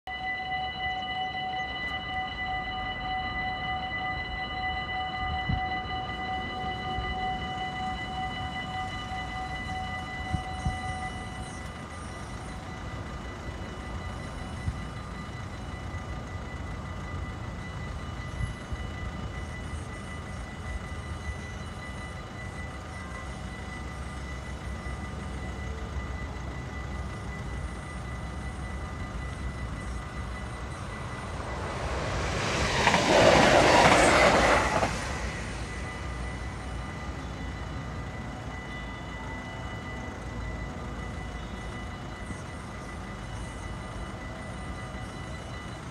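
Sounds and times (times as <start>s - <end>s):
crossing warning bell: 0.0s - 45.9s
train rushing on rails: 0.1s - 45.9s.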